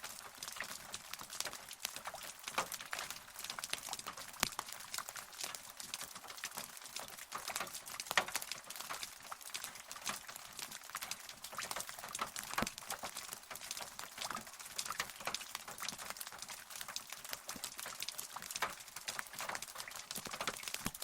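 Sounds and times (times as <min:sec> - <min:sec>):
rain drops pattering: 0:00.0 - 0:21.0.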